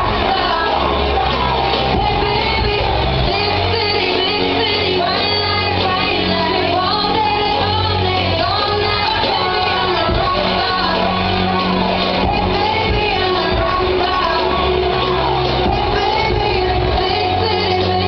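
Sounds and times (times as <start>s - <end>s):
pop-rock song with vocals: 0.0s - 18.0s.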